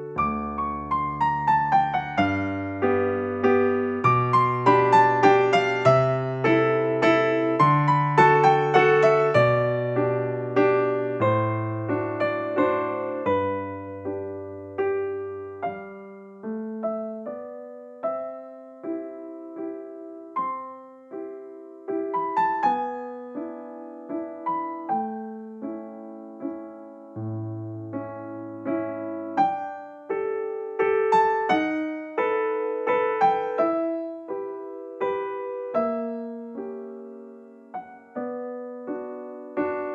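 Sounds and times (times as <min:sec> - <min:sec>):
electric piano music: 0:00.0 - 0:39.9.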